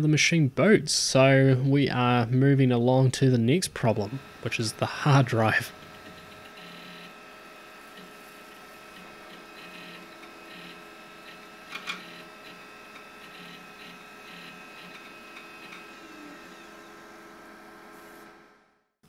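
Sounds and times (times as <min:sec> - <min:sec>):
computer humming: 0:03.2 - 0:18.7.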